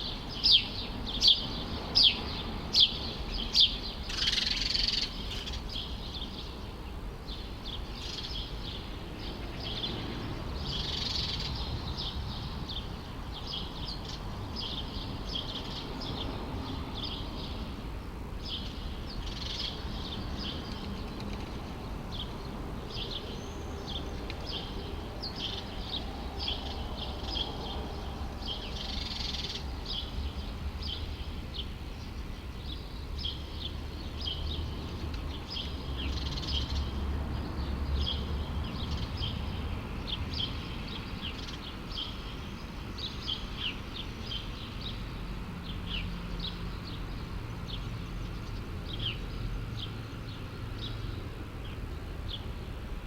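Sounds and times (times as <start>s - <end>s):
small birds chirping: 0.0s - 52.8s
low city rumble: 0.0s - 53.0s.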